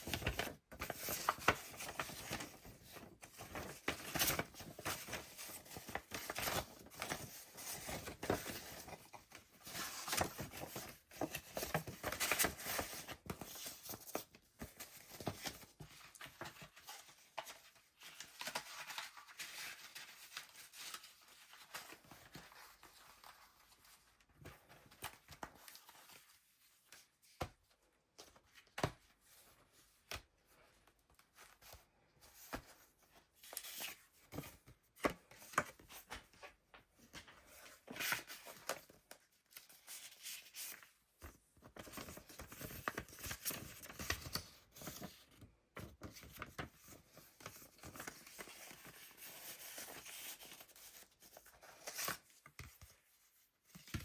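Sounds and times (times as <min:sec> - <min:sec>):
paper pages turning and rustling: 0:00.0 - 0:54.0.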